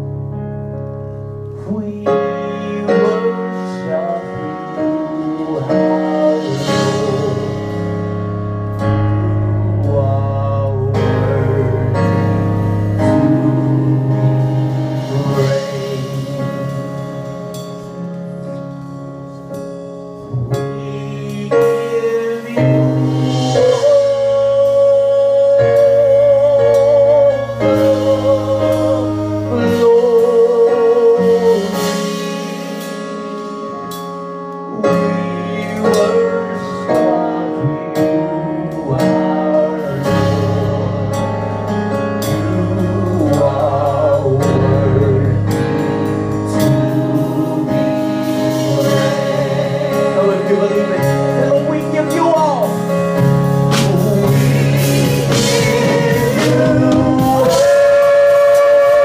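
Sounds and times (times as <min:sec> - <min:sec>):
sustained instrumental accompaniment: 0:00.0 - 0:59.0
person singing with vibrato: 0:01.6 - 0:08.2, 0:09.0 - 0:17.5, 0:20.3 - 0:33.9, 0:34.7 - 0:59.0.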